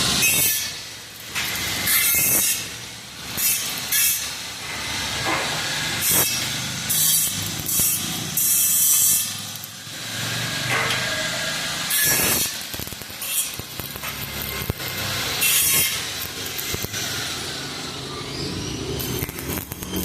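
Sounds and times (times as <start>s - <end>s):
arc welding crackling hiss: 0.0s - 20.0s.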